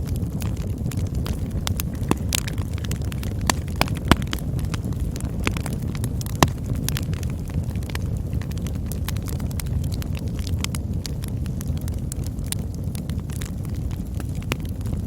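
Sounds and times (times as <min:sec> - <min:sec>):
campfire low rumble: 0:00.0 - 0:15.0
fire crackles: 0:00.0 - 0:15.0
sharp fire pops: 0:00.0 - 0:15.0.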